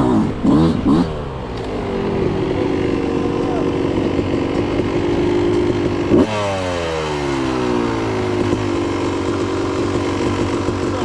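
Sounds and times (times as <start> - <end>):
dirt bike idling: 0.0 - 11.0.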